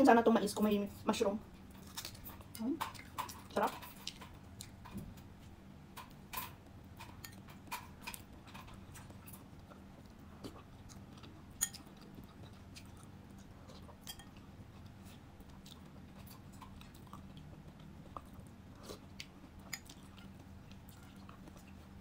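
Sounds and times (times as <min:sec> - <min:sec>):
faint low hum: 0:00.0 - 0:22.0
person chewing food: 0:01.6 - 0:22.0.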